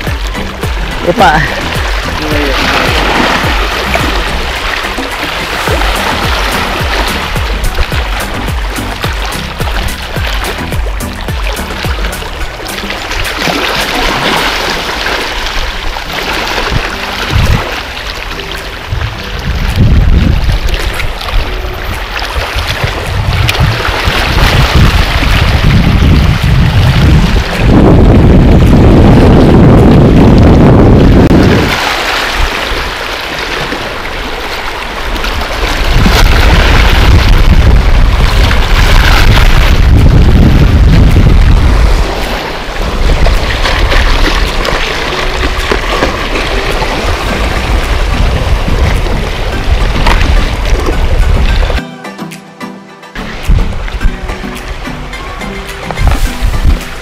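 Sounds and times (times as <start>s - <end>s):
waves splashing against rocks: 0.0s - 51.8s, 53.3s - 57.0s
wind buffeting microphone: 0.0s - 51.8s, 53.3s - 54.8s, 55.9s - 57.0s.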